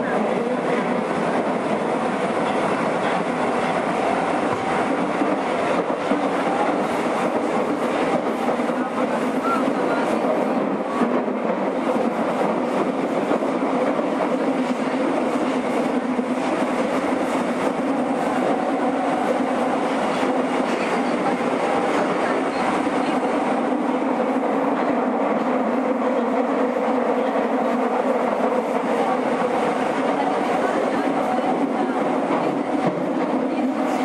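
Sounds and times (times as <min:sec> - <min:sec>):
train wheel and rail noise: 0:00.0 - 0:34.0.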